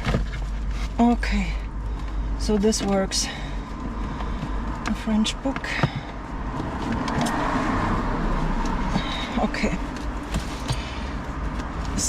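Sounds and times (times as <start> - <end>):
books being handled and packed: 0.0 - 12.0.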